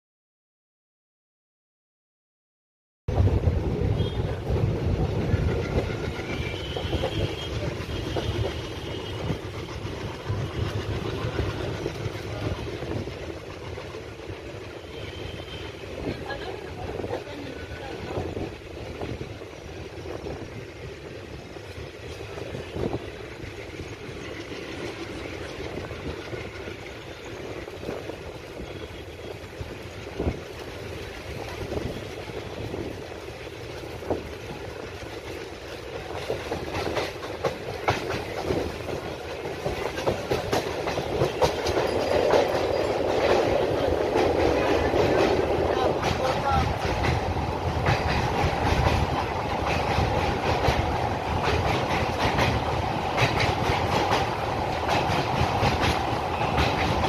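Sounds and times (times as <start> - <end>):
diesel locomotive chugging: 3.1 - 57.0
train wheels clattering on rails: 3.5 - 57.0.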